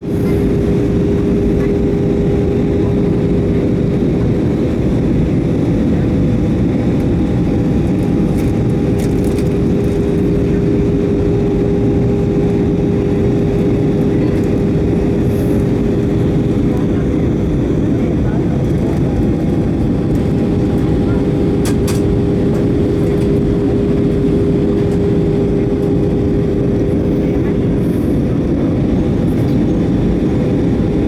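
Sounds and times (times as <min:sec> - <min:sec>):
airplane cabin drone: 0:00.0 - 0:31.0
constant hum: 0:00.0 - 0:31.0.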